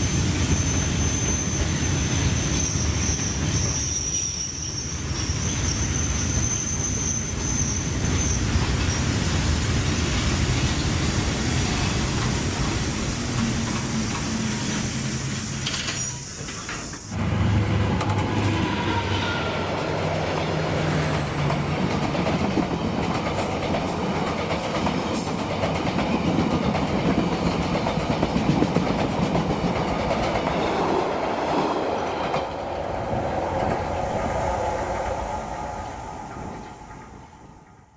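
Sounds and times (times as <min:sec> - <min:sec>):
passenger train rumbling past: 0:00.0 - 0:37.9.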